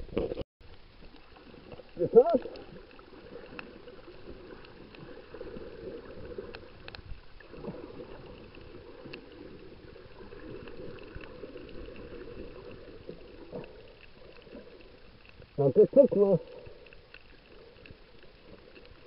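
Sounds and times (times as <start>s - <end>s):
underwater water rush: 0.0s - 19.0s.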